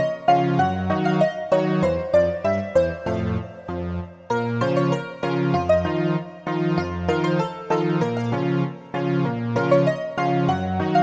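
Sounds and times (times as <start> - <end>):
electric piano melody: 0.0 - 11.0.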